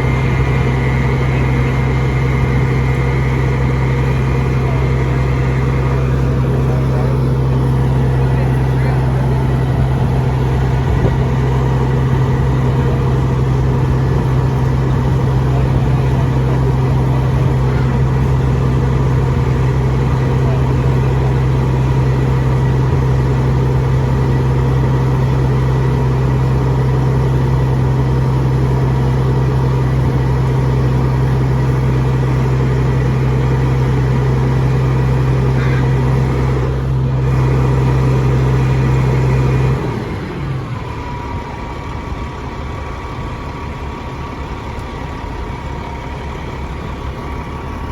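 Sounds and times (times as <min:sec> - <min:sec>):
fire truck engine idling: 0:00.0 - 0:47.9.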